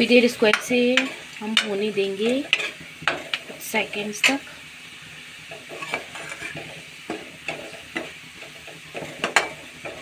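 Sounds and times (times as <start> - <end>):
onions sizzling in oil: 0.0 - 10.0
metal ladle scraping a pan: 0.4 - 4.6, 5.5 - 10.0.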